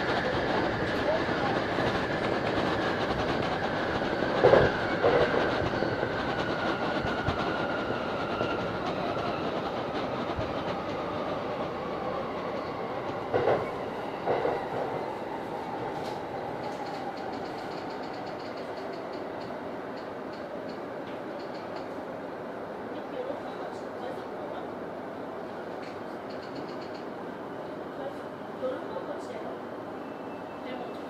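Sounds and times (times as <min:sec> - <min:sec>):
train wheels rumbling: 0:00.0 - 0:22.2, 0:22.9 - 0:29.6.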